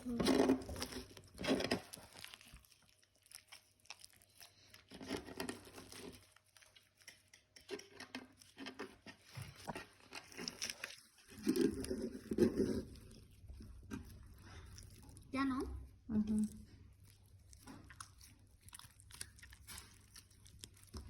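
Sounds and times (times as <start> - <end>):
slime crinkling and squishing: 0.0 - 21.0.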